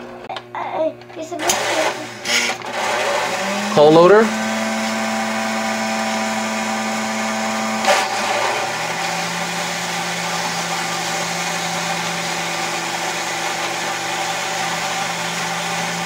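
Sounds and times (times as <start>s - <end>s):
electric motor humming: 1.0s - 16.0s.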